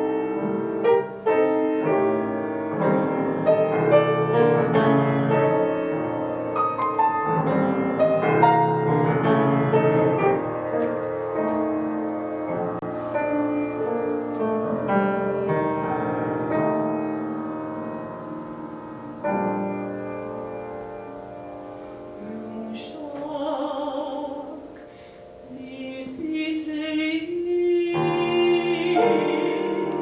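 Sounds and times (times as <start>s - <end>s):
piano playing: 0.0s - 30.0s.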